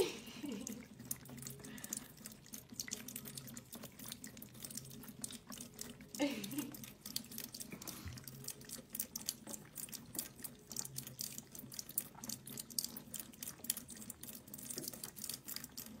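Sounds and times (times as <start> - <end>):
cats lapping water: 0.0 - 16.0
tap water running into steel sink: 0.0 - 16.0.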